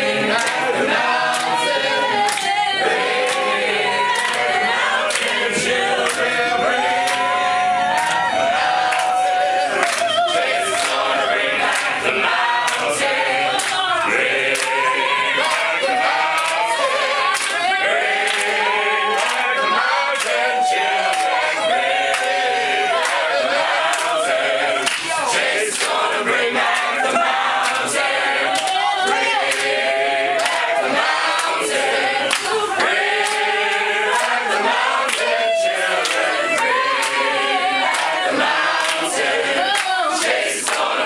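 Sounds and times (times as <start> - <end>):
choir singing a cappella: 0.0 - 41.0
hands clapping: 0.2 - 24.2, 24.8 - 41.0.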